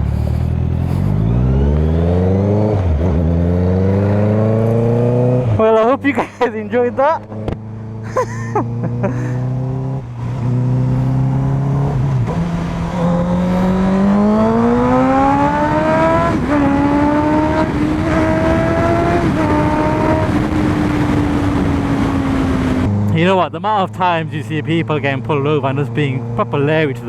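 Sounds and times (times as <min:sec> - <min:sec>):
motorcycle engine accelerating: 0:00.0 - 0:23.5.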